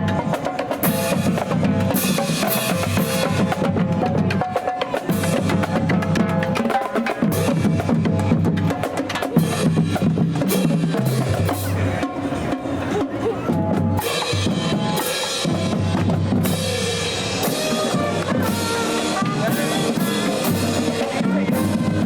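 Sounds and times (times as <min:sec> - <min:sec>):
marching band playing: 0:00.0 - 0:22.0
snare and bass drums: 0:00.0 - 0:22.0.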